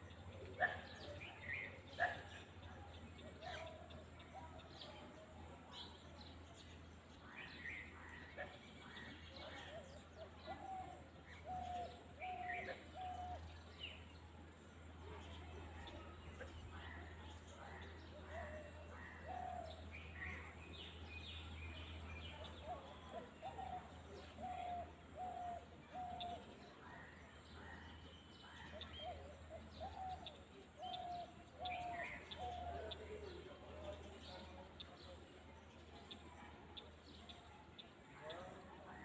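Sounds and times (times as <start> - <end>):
faint birdsong: 0.0 - 39.0.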